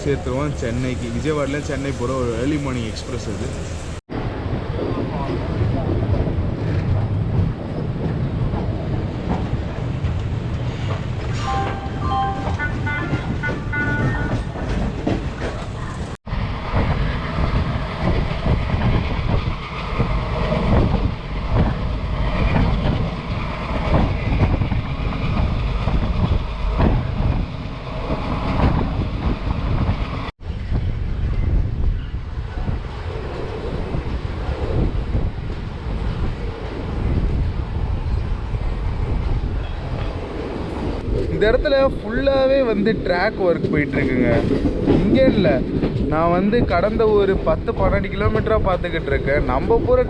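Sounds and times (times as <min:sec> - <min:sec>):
train coach rumble and rattle: 0:00.0 - 0:50.0.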